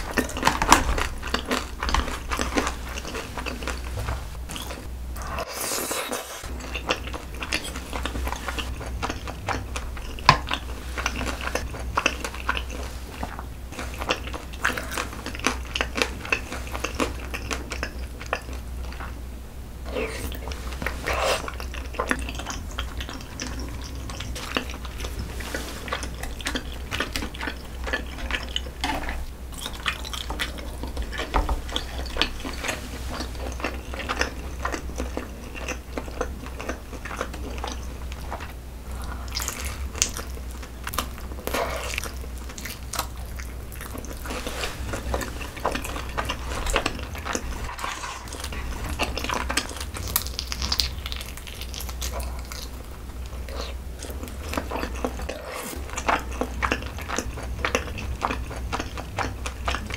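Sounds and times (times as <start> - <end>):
wet chewing: 0.0 - 19.2, 19.8 - 59.9.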